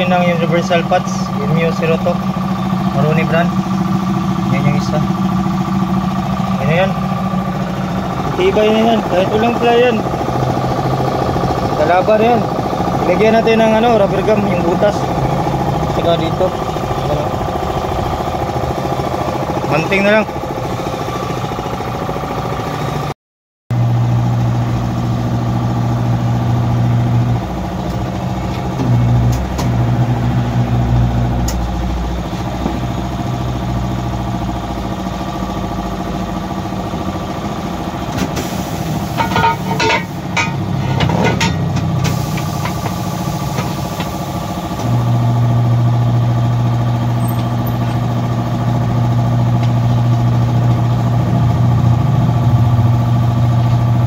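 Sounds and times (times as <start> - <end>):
engine humming: 0.0 - 23.1, 23.8 - 54.0.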